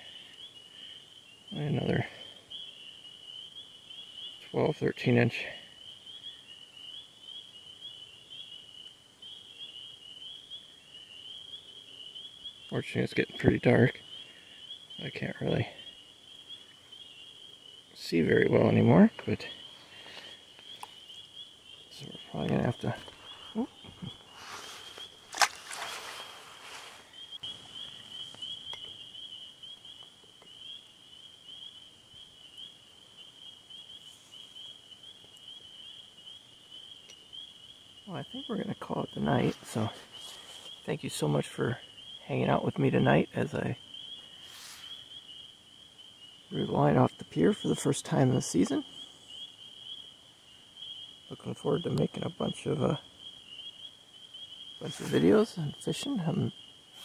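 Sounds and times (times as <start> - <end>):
frogs trilling: 0.0 - 57.0
high rising chirps chorus: 0.0 - 57.0.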